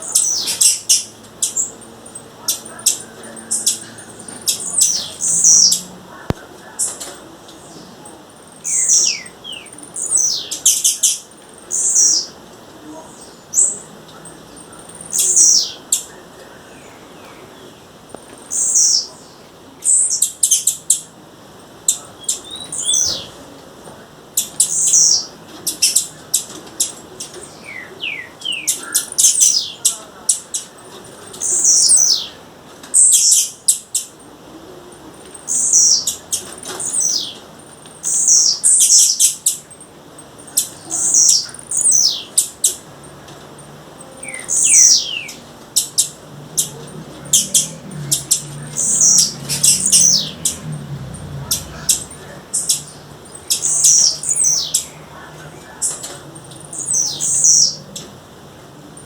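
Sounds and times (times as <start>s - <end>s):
bird chirping and clicking: 0.0s - 12.6s, 13.2s - 16.1s, 19.8s - 21.1s, 21.9s - 23.4s, 24.4s - 34.3s, 35.2s - 50.7s, 51.4s - 55.0s.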